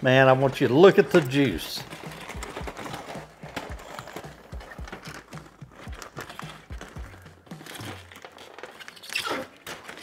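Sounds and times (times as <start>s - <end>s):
background music with steady beat: 0.0s - 8.9s
aluminium foil crinkling: 0.0s - 10.0s.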